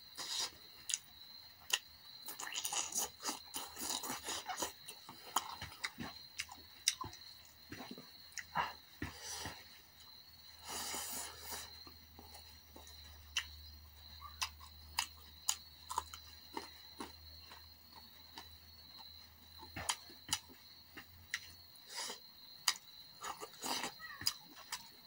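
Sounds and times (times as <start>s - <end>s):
wet chewing: 0.2s - 25.0s.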